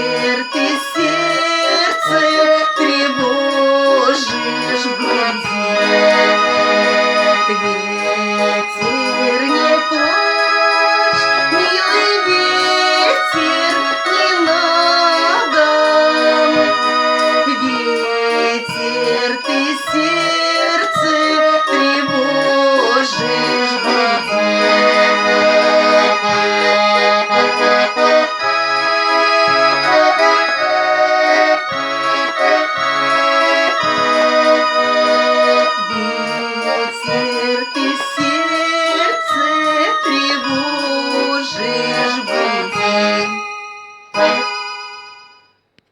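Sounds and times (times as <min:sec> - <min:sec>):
button accordion melody: 0:00.0 - 0:45.6
accordion bass-chord beats: 0:00.0 - 0:45.9.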